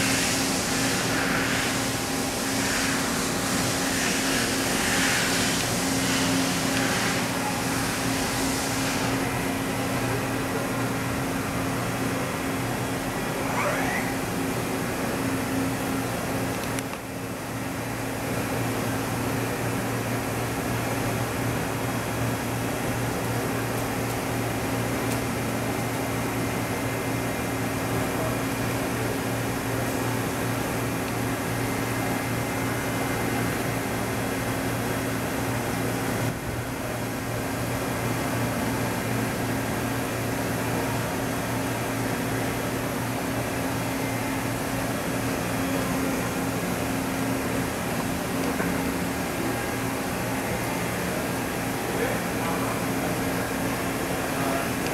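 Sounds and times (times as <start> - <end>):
machine hum with hiss: 0.0 - 54.9.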